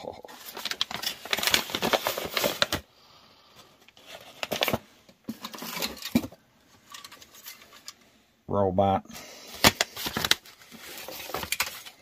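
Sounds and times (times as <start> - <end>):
rustling packaging: 0.0 - 2.9, 3.6 - 8.0, 9.4 - 12.0.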